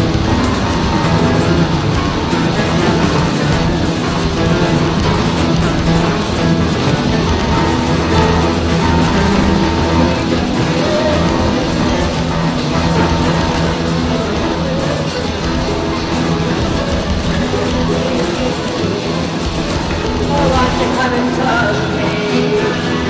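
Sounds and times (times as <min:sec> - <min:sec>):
rock music with guitar: 0:00.0 - 0:23.0.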